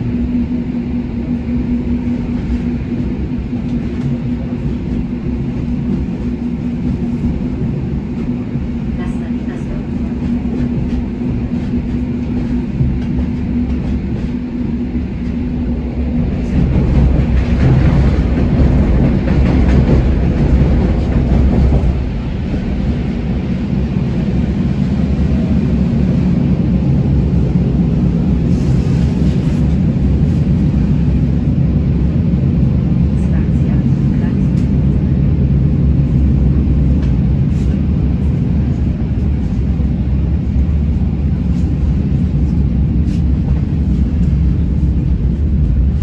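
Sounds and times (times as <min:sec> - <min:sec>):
steady low tones: 0:00.0 - 0:46.0
train rumbling: 0:00.0 - 0:46.0.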